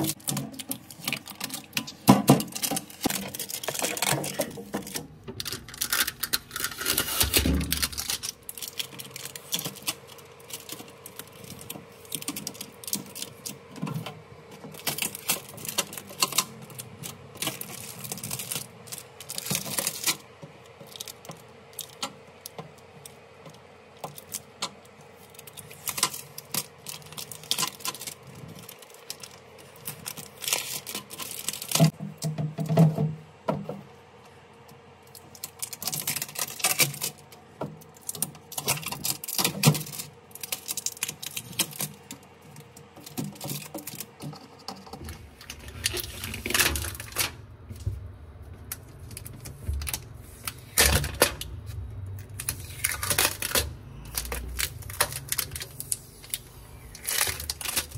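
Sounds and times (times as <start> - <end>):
packing tape being peeled: 0.0 - 14.0, 14.6 - 22.5, 25.2 - 32.0, 35.0 - 47.4, 48.6 - 57.9
plastic crinkling: 0.0 - 32.0, 35.0 - 57.9.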